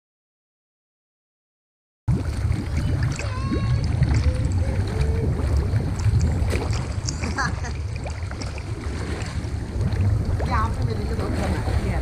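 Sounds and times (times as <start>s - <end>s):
heavy low rumble: 2.1s - 12.0s
pool water sloshing and splashing: 2.1s - 12.0s.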